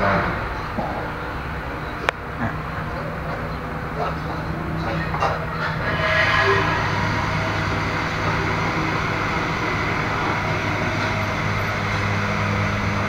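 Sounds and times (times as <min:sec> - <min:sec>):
background noise haze: 0:00.0 - 0:13.0
low mechanical hum: 0:00.0 - 0:13.0.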